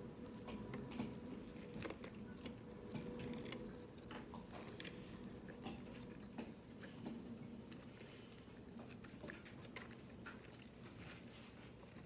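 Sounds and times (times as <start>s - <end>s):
faint steady hum: 0.0s - 12.0s
person chewing wet smacks: 0.2s - 12.0s.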